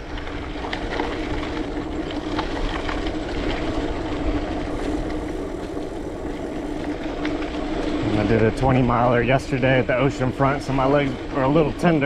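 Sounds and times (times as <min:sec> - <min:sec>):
bicycle tyre noise: 0:00.0 - 0:12.0
wind rumbling on microphone: 0:00.0 - 0:12.0.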